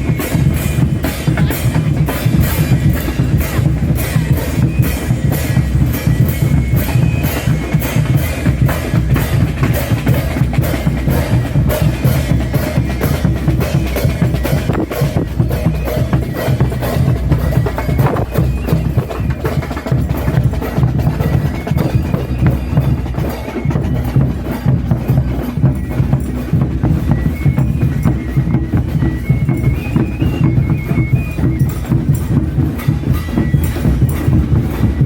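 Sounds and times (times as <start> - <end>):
bass drums and cymbals: 0.0 - 35.0
thin high melody: 0.0 - 35.0.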